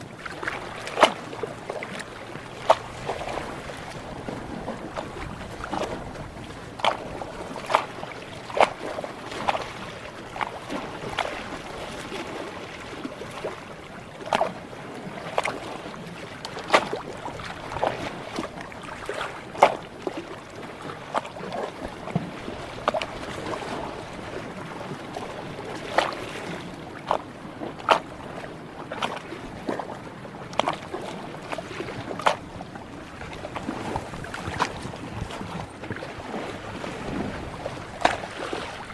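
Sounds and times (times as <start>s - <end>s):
ocean water lapping: 0.0s - 38.9s.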